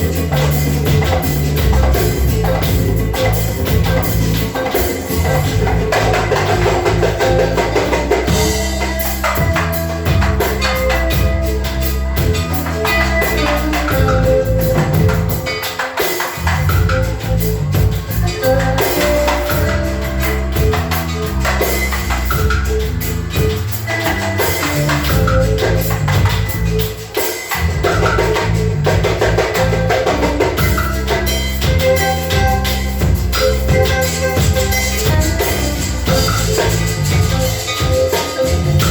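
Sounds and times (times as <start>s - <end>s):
music with drums and bass: 0.0s - 38.9s.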